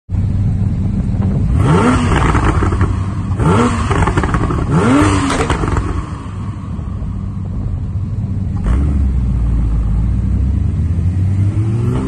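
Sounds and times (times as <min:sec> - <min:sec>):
car engine idling and revving: 0:00.1 - 0:12.0
exhaust crackles: 0:00.2 - 0:10.8.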